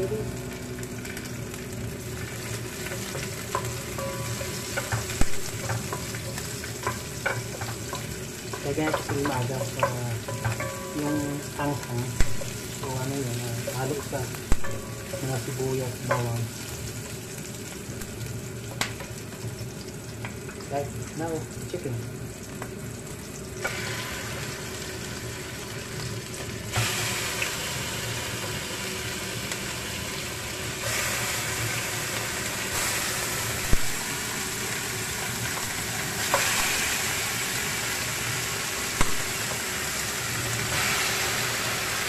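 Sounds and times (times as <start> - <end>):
vegetables sizzling in a pan: 0.0 - 42.0.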